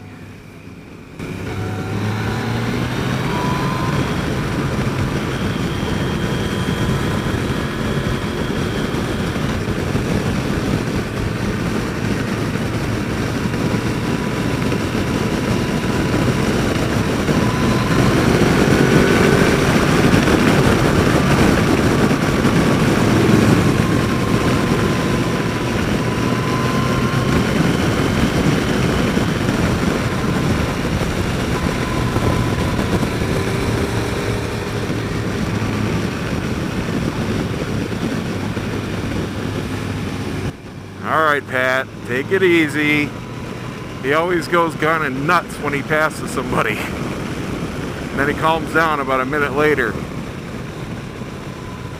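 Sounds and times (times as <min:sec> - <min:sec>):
motorcycle engine running: 0:00.0 - 0:51.9
wind rush: 0:01.2 - 0:51.9.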